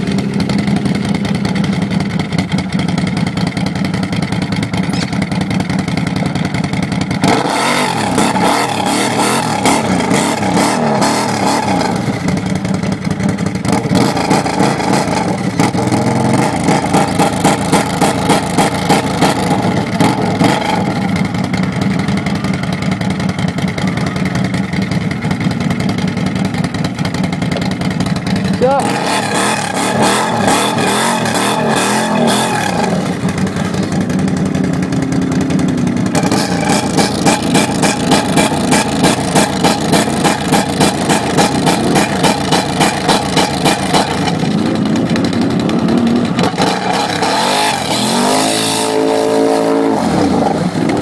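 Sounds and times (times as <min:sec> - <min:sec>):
engine running and revving: 0:00.0 - 0:51.0.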